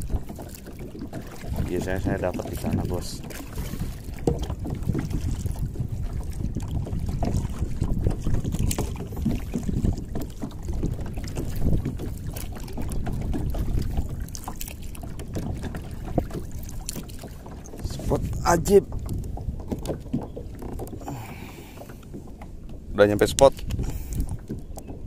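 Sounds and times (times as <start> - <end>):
paddle splashing in water: 0.0 - 25.0
wind rumble on microphone: 0.0 - 25.0.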